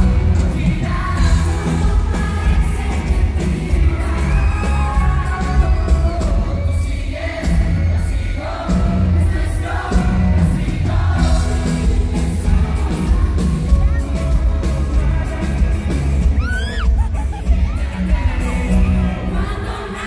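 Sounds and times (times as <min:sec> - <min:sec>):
band with drums and bass: 0:00.0 - 0:20.0
singers singing into microphones: 0:00.0 - 0:20.0.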